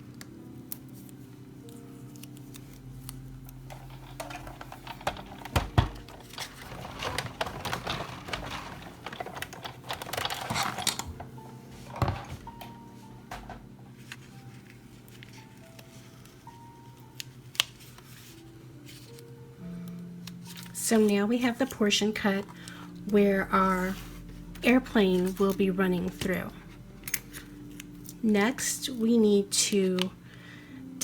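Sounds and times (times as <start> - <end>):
tape and paper rustling and clicking: 0.0 - 30.2.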